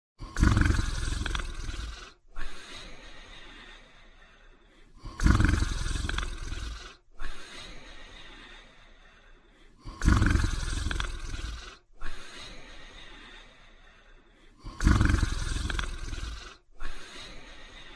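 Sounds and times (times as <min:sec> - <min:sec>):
person snoring: 0:00.2 - 0:17.9
quiet breath: 0:00.2 - 0:17.9.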